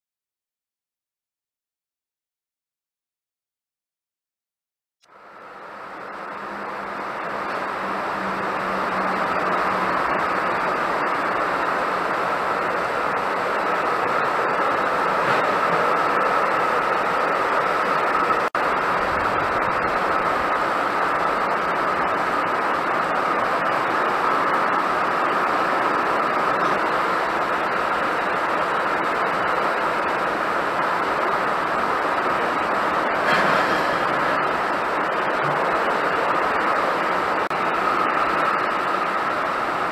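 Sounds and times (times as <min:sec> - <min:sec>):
heavy rain on a metal roof: 0:05.0 - 0:39.9.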